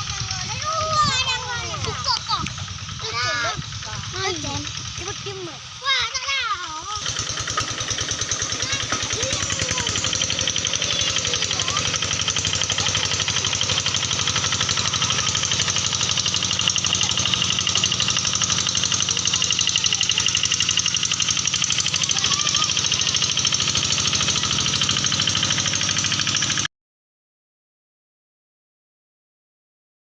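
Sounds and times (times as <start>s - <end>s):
small engine knocking: 0.0s - 26.7s.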